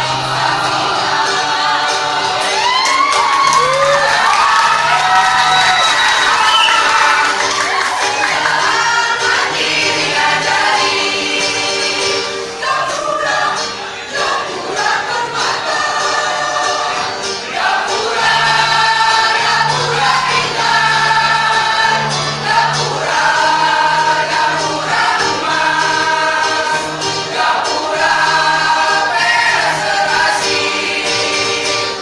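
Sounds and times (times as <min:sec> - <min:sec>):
mixed choir singing in parts: 0:00.0 - 0:32.0.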